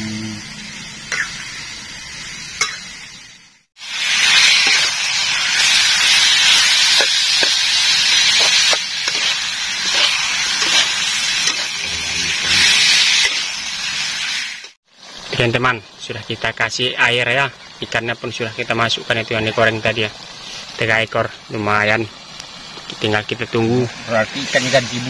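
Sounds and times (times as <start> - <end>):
food sizzling in a hot pan: 0.0 - 25.0
water hissing in a hot pan: 0.0 - 25.0.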